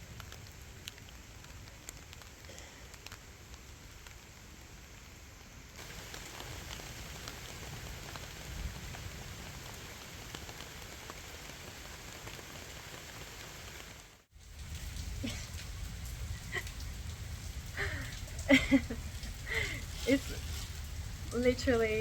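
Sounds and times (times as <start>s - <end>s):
raindrops ticking close by: 0.0s - 22.0s
steady rain: 0.0s - 22.0s.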